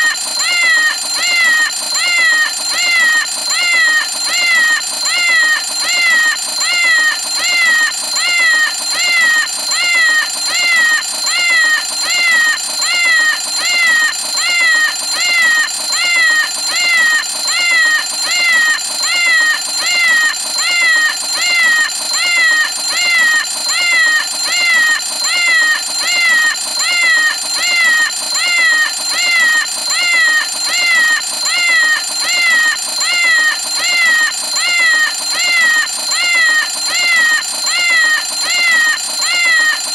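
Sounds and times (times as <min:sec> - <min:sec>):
high ringing tone: 0:00.0 - 0:39.9.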